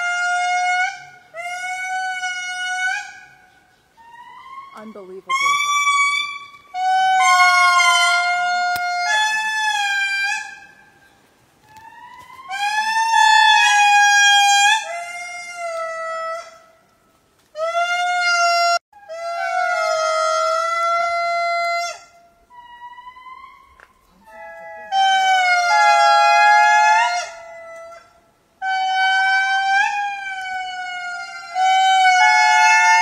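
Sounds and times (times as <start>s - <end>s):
lemurs calling: 0.0s - 16.8s, 17.6s - 33.0s.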